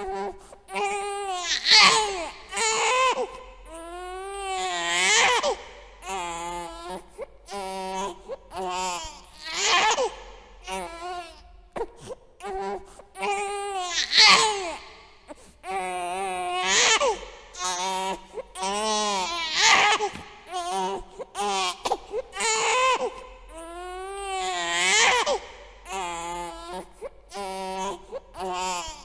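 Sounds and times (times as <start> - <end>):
baby crying: 0.0 - 11.4, 12.4 - 14.8, 15.7 - 29.0.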